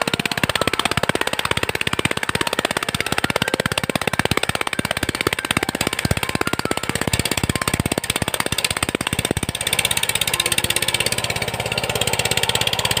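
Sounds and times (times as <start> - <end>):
diesel tiller engine running: 0.0 - 13.0.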